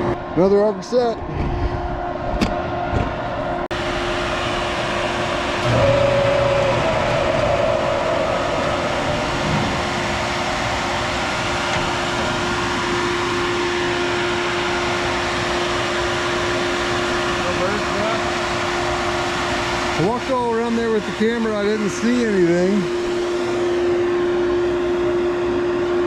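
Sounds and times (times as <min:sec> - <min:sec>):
steady whine: 0:00.0 - 0:26.0
heavy diesel engine running: 0:03.7 - 0:25.5.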